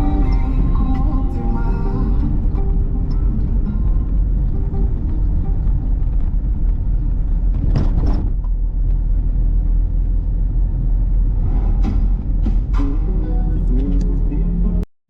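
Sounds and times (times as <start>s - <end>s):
car engine and tyres rumbling: 0.0s - 14.9s.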